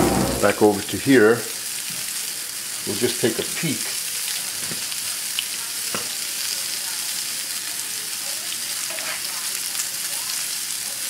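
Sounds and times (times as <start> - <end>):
cutlets sizzling in oil: 0.2 - 11.0.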